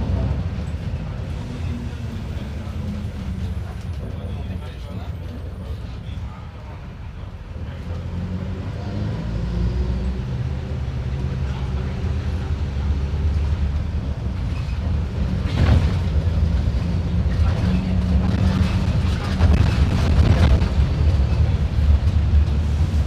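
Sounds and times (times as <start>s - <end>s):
bus diesel engine humming: 0.0s - 23.0s
road noise: 0.0s - 23.0s.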